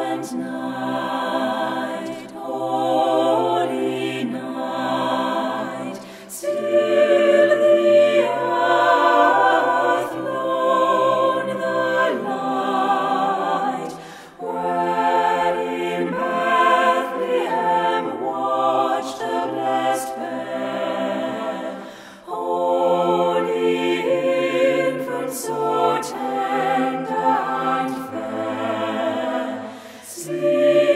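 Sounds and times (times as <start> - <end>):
choir singing held notes: 0.0 - 30.9.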